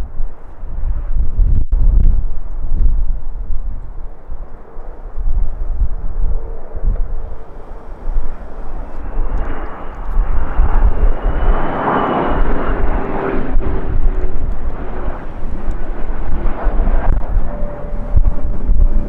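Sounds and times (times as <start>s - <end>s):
jet airliner passing: 0.0s - 19.0s
wind rumble on microphone: 0.0s - 19.0s
faint high whine: 2.4s - 19.0s.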